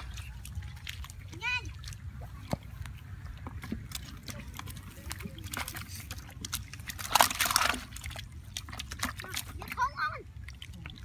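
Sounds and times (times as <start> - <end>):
muddy water sloshing and splashing: 0.0 - 11.0.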